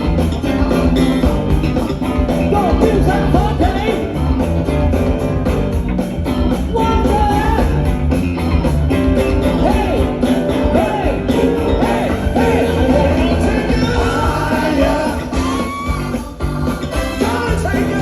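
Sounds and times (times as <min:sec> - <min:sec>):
busy bass line: 0:00.0 - 0:18.0
funk band playing: 0:00.0 - 0:18.0.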